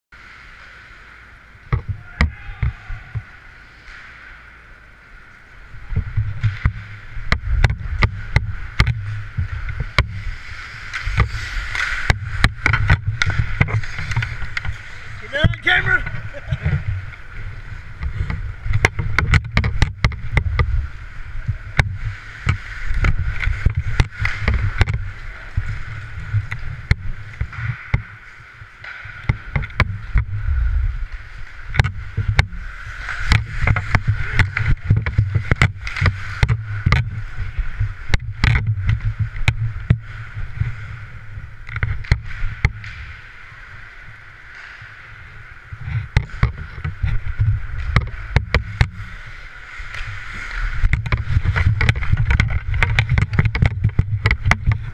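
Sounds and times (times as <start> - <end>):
hockey sticks clacking: 0.2 - 54.9
skate blades scraping ice: 0.2 - 54.9
wind rumble on microphone: 5.6 - 54.9.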